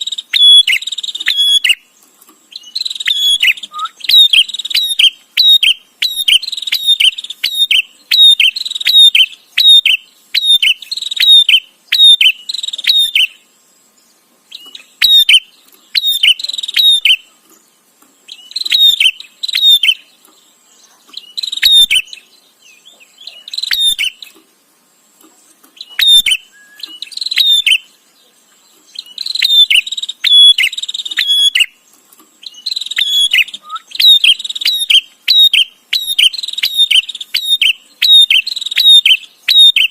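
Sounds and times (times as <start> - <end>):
bird chipping calls: 0.0 - 13.5, 14.5 - 24.5, 25.3 - 39.9.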